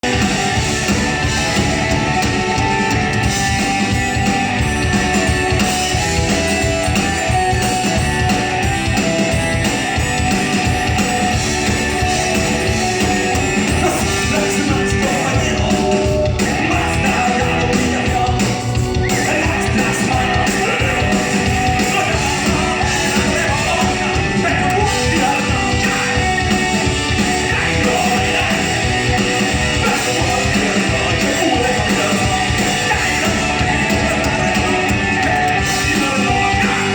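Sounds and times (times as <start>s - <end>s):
live rock band: 0.0s - 36.9s
person singing: 0.0s - 36.9s.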